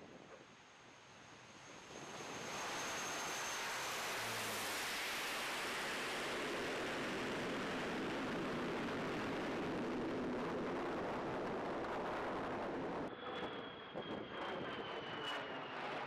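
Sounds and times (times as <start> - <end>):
turboprop engines roaring: 1.7 - 16.0.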